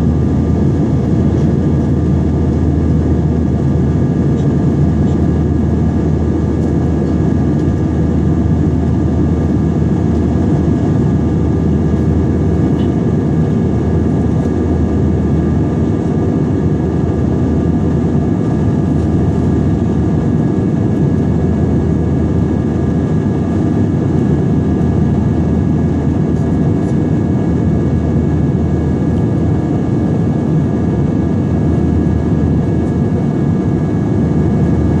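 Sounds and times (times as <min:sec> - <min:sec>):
jet engine roar in cabin: 0:00.0 - 0:35.0.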